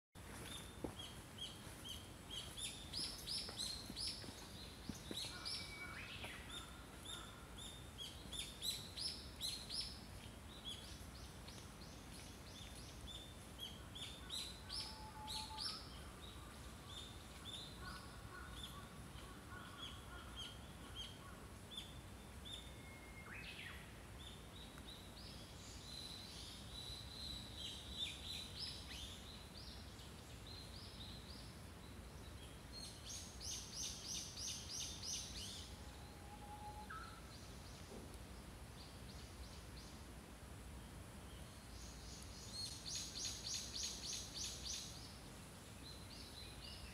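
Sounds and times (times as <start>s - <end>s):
faint background noise: 0.2s - 46.9s
songbirds chirping: 0.2s - 46.9s.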